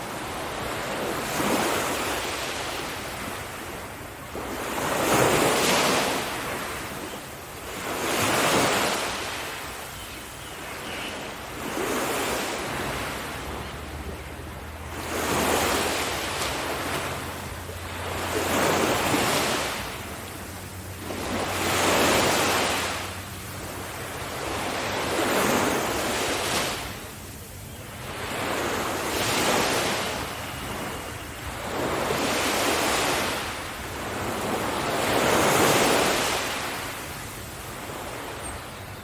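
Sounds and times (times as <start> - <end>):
sea waves breaking on beach: 0.0 - 39.0.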